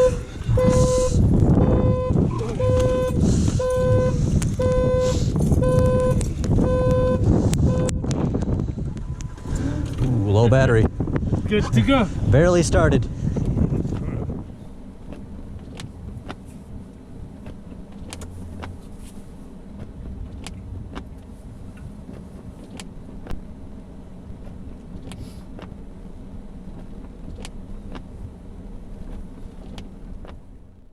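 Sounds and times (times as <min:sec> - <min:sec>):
van engine idling: 0:00.0 - 0:30.9.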